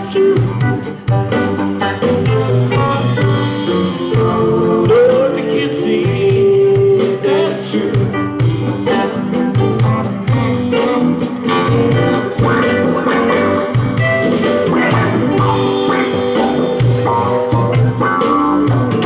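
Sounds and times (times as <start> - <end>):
bass guitar: 0.0 - 19.0
drums: 0.0 - 19.0
electric guitars: 0.0 - 19.0
keyboards: 0.0 - 19.0.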